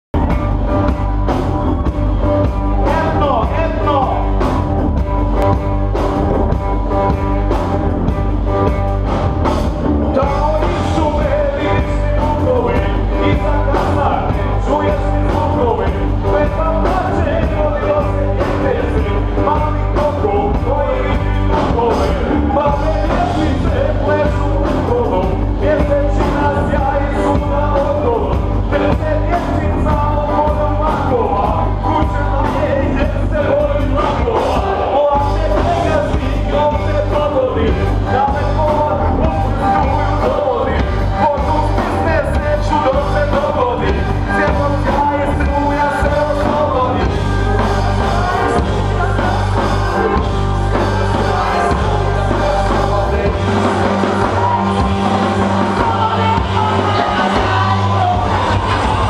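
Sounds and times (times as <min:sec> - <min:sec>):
drum kit: 0:00.1 - 0:59.0
electric guitar: 0:00.2 - 0:59.0
person rapping through pa: 0:10.1 - 0:58.7.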